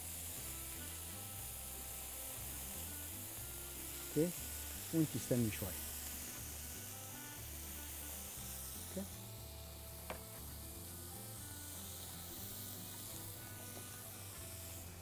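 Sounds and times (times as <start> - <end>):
meat sizzling on a grill pan: 0.0 - 15.0.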